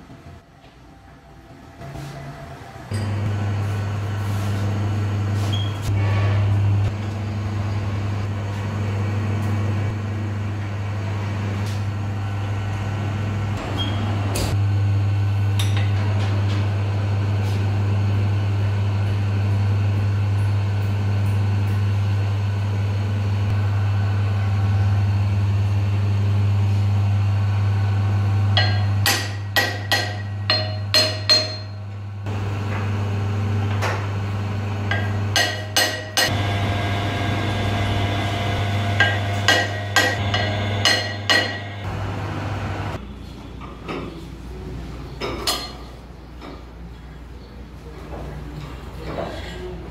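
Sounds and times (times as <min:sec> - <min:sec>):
low electric hum: 0:00.0 - 0:49.0.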